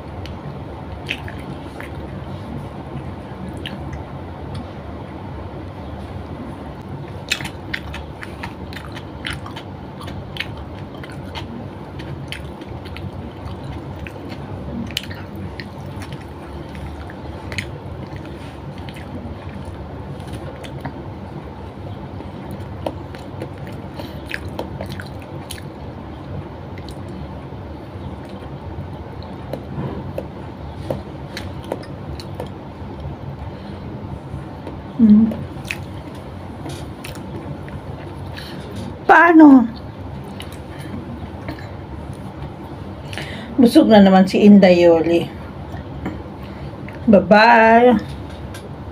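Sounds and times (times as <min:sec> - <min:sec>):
low background hum: 0:00.0 - 0:48.9
person chewing food: 0:00.2 - 0:04.8, 0:06.0 - 0:27.2, 0:28.0 - 0:33.8, 0:34.4 - 0:39.0, 0:39.8 - 0:43.3.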